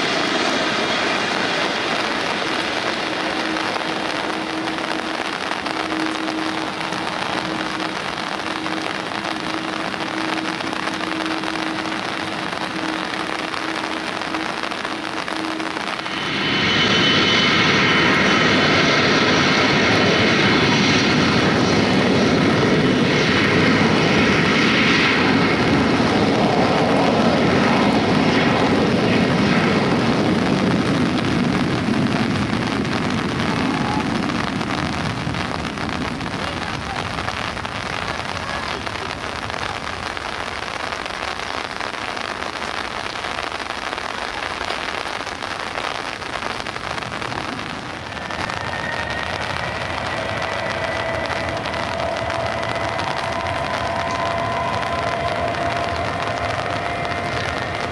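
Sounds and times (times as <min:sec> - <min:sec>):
heavy rain hissing: 0:00.0 - 0:57.9
jet airliner engines roaring: 0:00.0 - 0:57.9.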